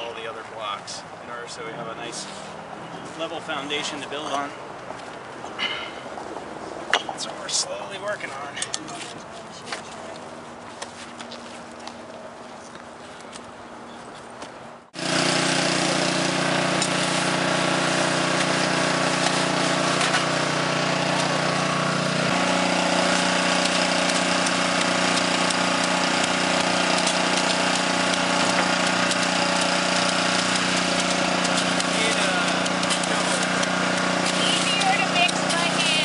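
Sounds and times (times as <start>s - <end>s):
concrete mixer engine running: 0.0s - 12.7s, 14.9s - 36.0s.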